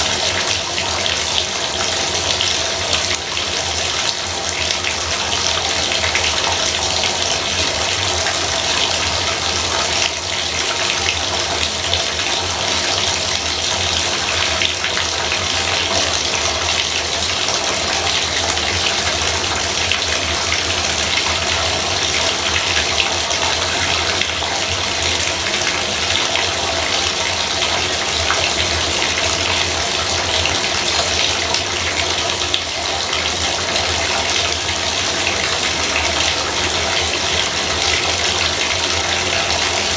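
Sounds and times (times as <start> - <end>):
faucet water splashing into tub: 0.0 - 39.9.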